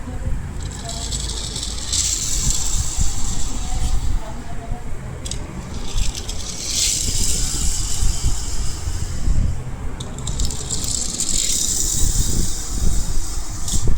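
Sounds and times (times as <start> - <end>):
toy car wheels rattling: 0.6 - 4.5, 5.2 - 13.9.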